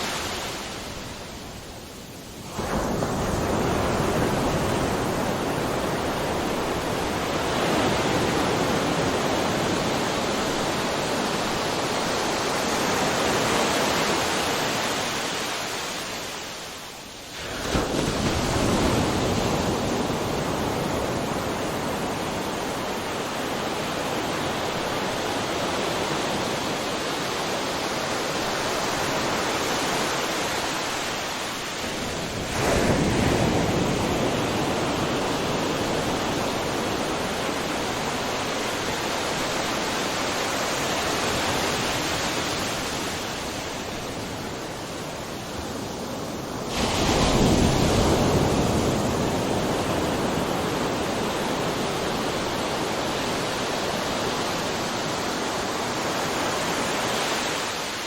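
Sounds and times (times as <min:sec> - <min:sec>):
ocean waves breaking: 0:00.0 - 0:01.6, 0:02.4 - 0:58.0.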